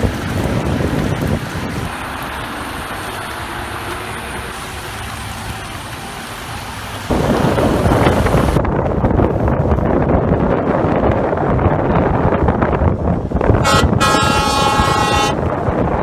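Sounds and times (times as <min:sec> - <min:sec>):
street traffic rumble: 0:00.0 - 0:16.0
wind buffeting microphone: 0:00.0 - 0:16.0.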